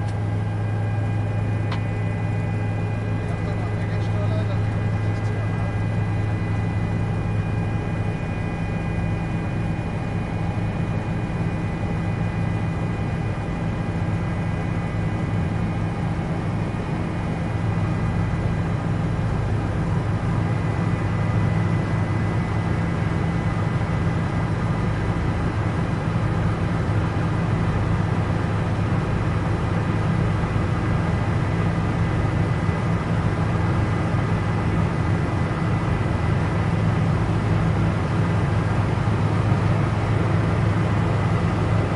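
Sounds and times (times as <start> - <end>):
helicopter engine and rotor drone: 0.0 - 41.9.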